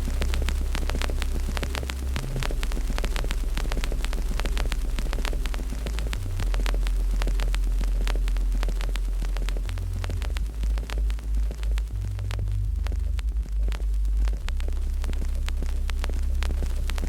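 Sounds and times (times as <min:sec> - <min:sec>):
loud deep hum: 0:00.0 - 0:17.0
wood fire crackling: 0:00.0 - 0:17.0.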